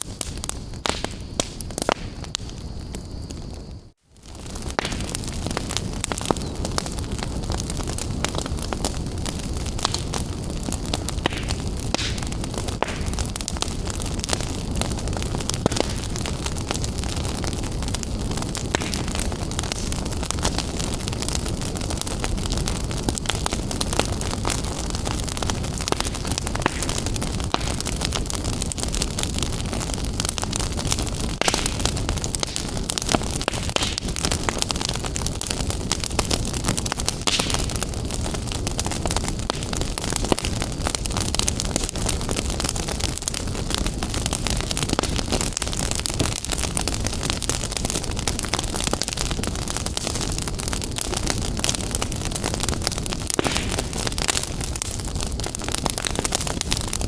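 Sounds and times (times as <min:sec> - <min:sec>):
fire crackling and rumbling: 0:00.0 - 0:57.0.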